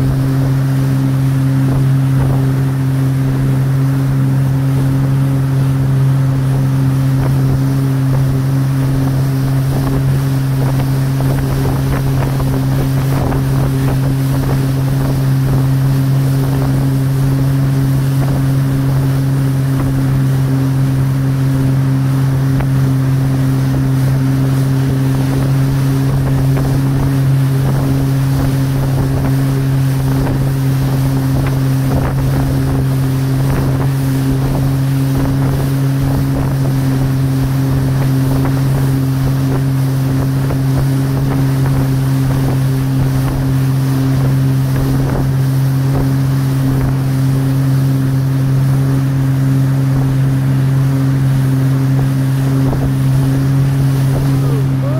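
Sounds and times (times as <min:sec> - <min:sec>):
wind buffeting microphone: 0:00.0 - 0:20.6, 0:22.4 - 0:47.5, 0:51.8 - 0:54.9
motorboat engine droning: 0:00.0 - 0:54.9
rushing boat wake: 0:00.0 - 0:54.9.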